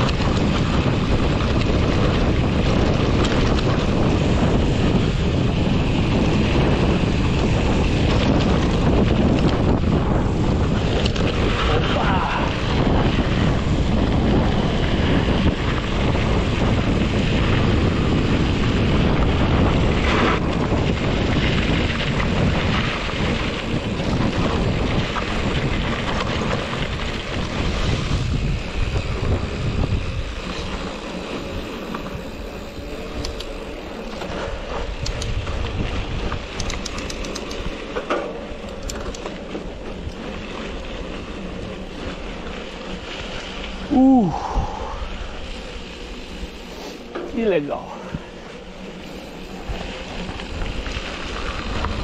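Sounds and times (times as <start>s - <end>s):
bike clicks and rattles: 0.0s - 52.0s
wind buffeting microphone: 0.0s - 52.0s.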